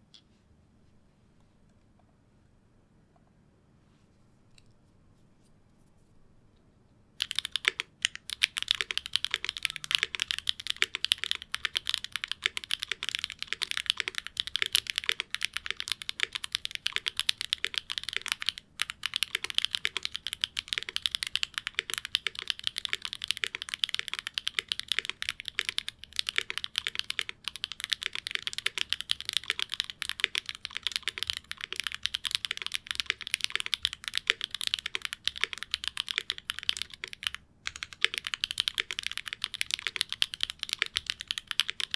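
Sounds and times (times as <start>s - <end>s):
mechanical keyboard typing: 7.2s - 41.9s.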